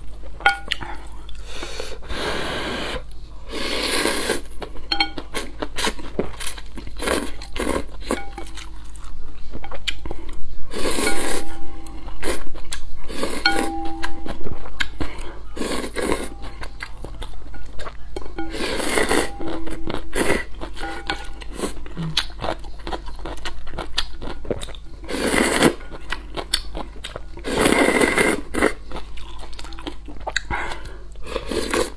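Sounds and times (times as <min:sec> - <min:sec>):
chewing: 0:04.4 - 0:31.9.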